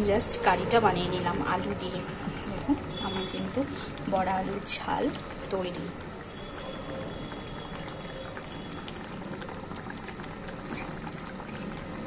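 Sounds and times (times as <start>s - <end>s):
curry bubbling with small pops: 0.0s - 12.0s.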